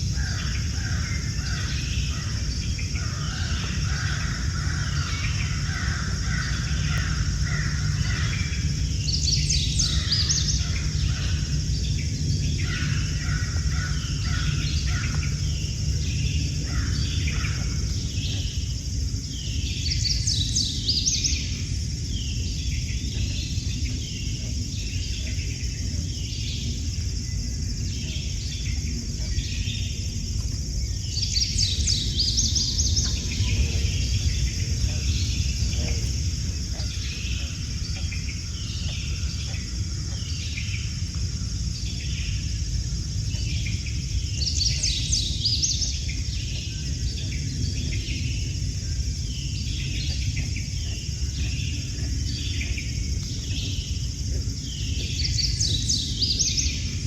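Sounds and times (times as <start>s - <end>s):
frogs calling: 0.0s - 57.0s
loud rapid frog trills: 0.0s - 57.0s
low rumble: 0.0s - 57.0s
steady high hum: 0.0s - 57.0s.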